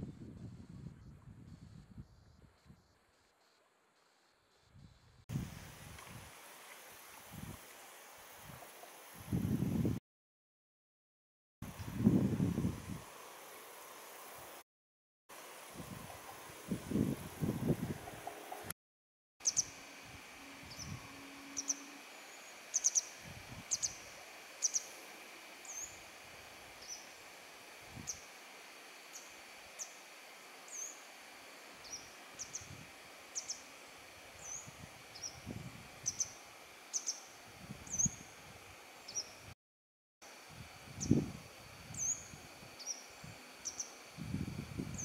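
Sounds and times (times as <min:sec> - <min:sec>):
faint high insect drone: 0:00.1 - 0:10.0, 0:11.7 - 0:14.6, 0:15.3 - 0:18.7, 0:19.4 - 0:39.6, 0:40.2 - 0:45.0.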